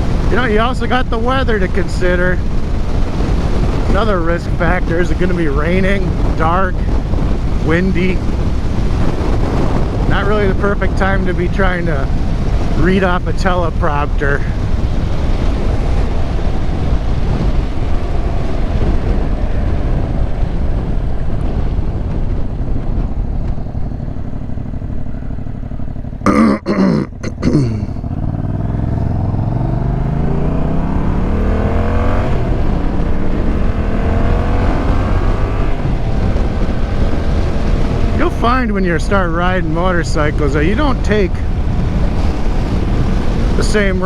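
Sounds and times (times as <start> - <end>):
motorcycle engine: 0.0 - 44.0
wind noise: 0.0 - 44.0.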